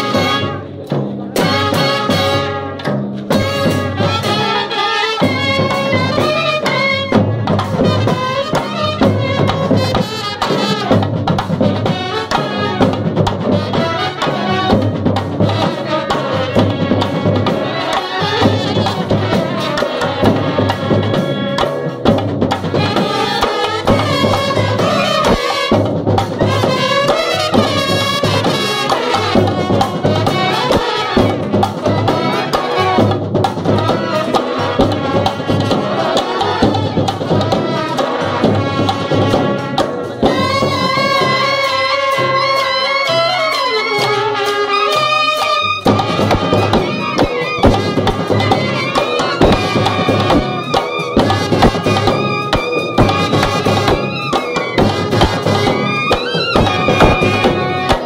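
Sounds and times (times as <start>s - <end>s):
steady drum beat: 0.0s - 42.7s, 43.4s - 58.0s
brass instruments playing melody: 0.0s - 58.0s.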